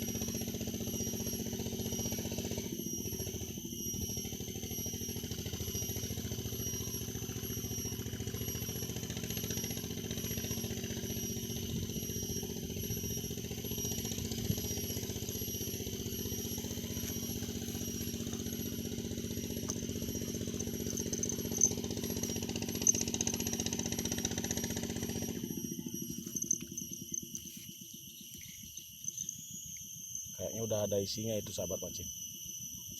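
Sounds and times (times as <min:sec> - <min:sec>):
high pulsing insect buzz: 0:00.0 - 0:32.9
small engine running: 0:00.0 - 0:32.9.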